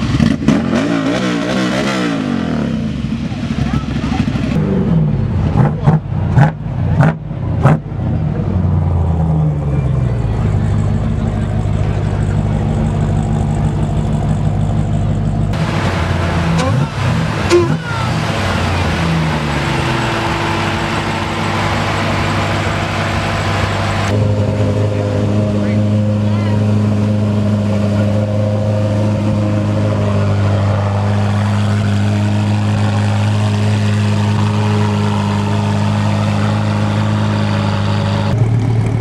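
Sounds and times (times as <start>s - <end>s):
car engines revving: 0.0s - 39.0s
engine running steadily: 0.0s - 39.0s.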